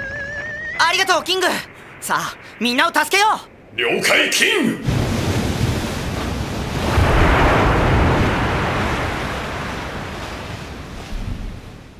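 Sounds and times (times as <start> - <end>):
sea water surging and splashing: 0.0 - 11.9.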